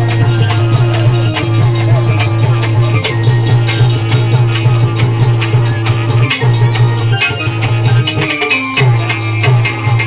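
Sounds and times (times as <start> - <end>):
steady drumbeat: 0.0 - 10.0.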